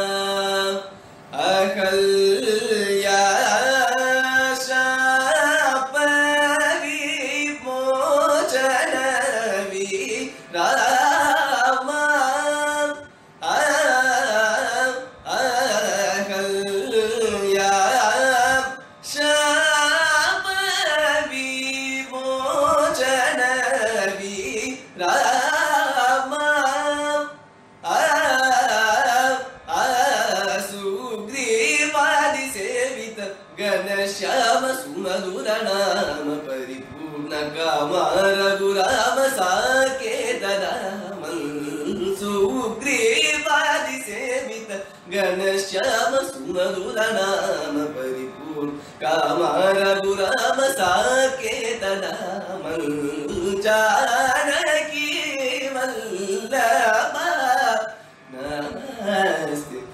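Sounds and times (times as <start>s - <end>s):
man singing ornamented phrases: 0.0s - 59.9s.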